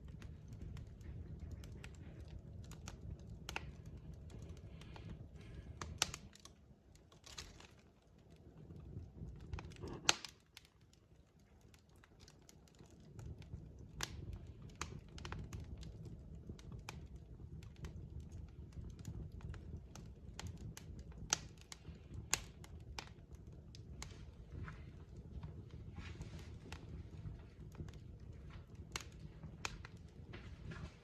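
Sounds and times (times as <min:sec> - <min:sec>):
low rush of flame: 0:00.0 - 0:31.0
wood fire crackling and popping: 0:00.0 - 0:31.0.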